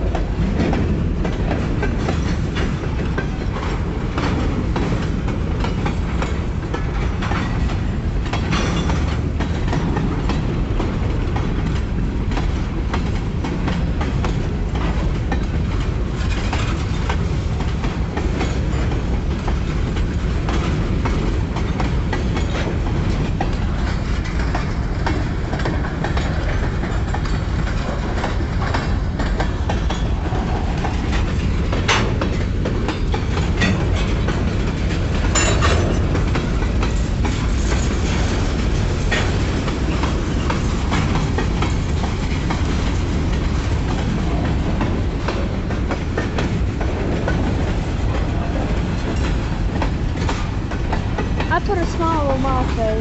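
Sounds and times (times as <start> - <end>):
train rumbling by: 0.0 - 53.0
wheels clicking and clanking: 0.0 - 53.0.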